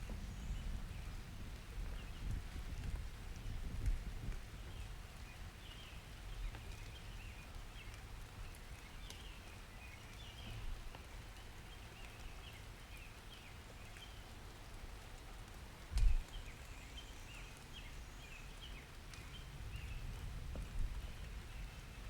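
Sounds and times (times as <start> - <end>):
light rain: 0.0 - 22.0.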